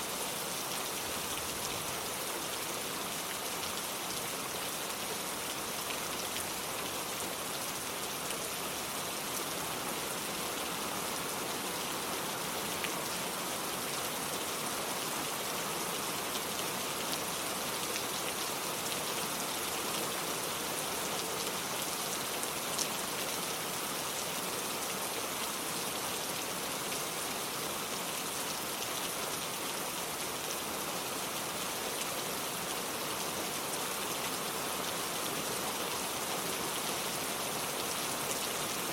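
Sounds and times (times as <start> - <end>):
steady rain on wooden porch: 0.0 - 38.9.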